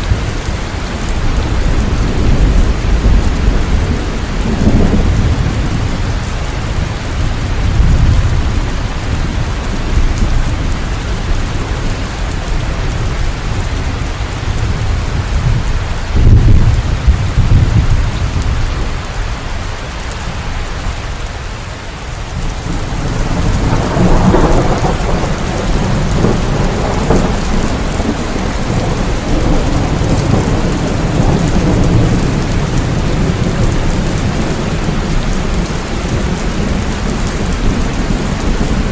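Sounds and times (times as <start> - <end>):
low rolling thunder: 0.0 - 20.9, 22.2 - 38.9
steady rain: 0.0 - 38.9.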